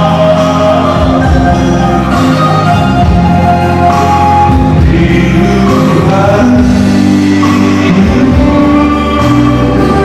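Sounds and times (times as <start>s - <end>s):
backing music: 0.0s - 10.0s
man singing into microphone: 0.0s - 10.0s.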